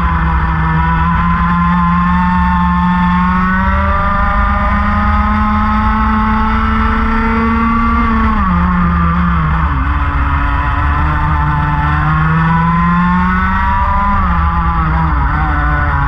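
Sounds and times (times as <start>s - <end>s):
kart engine at full throttle: 0.0s - 16.0s.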